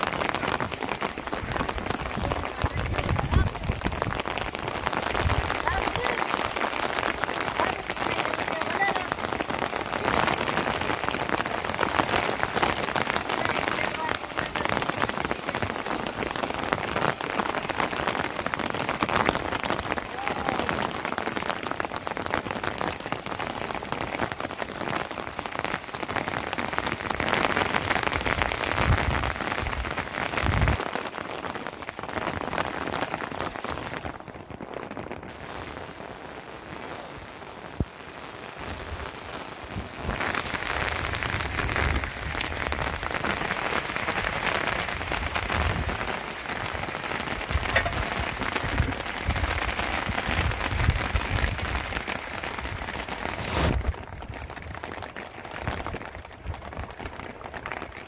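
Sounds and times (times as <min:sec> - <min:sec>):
rain on plastic sheeting: 0:00.0 - 0:58.0.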